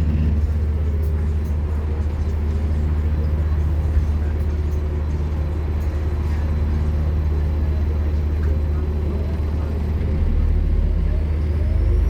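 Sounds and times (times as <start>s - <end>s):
bus diesel engine humming: 0.0s - 12.0s.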